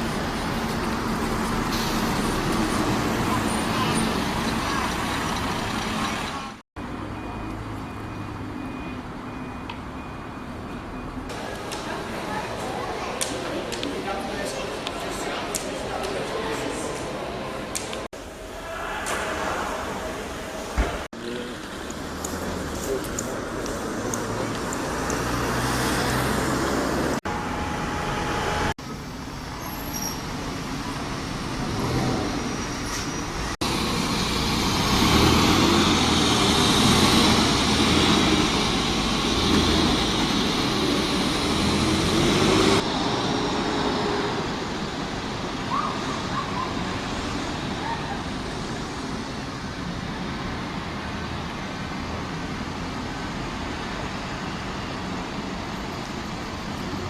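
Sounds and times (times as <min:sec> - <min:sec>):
vehicle engines and traffic: 0:00.0 - 0:57.0.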